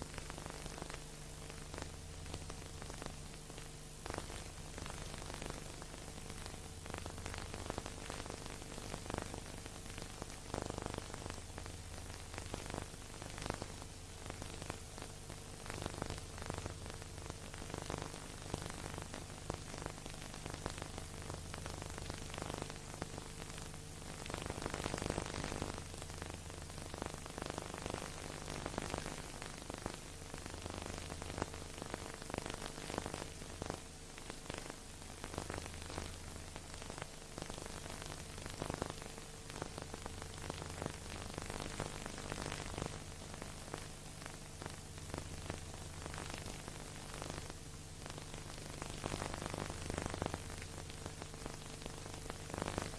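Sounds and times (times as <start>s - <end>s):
crackles and clicks: 0.0s - 52.9s
film surface hiss: 0.0s - 52.9s
low steady hum: 0.0s - 52.9s.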